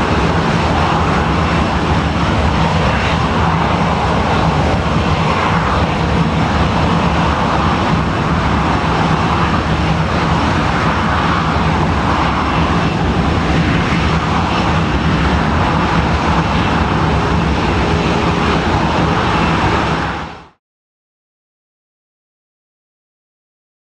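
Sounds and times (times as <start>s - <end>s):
jet engines running: 0.0s - 20.6s
low hum: 0.0s - 20.6s.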